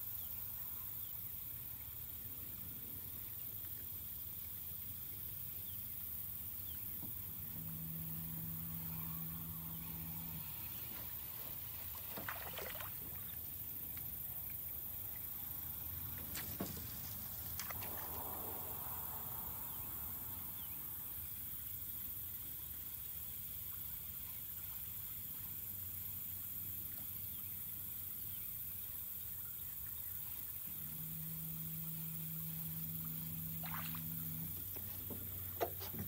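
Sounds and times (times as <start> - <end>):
low steady hum: 0.0 - 16.3, 17.1 - 36.0.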